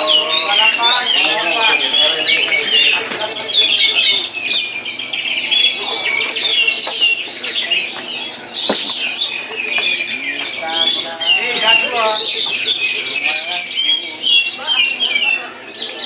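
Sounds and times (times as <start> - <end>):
songbirds chorus singing: 0.0 - 16.0.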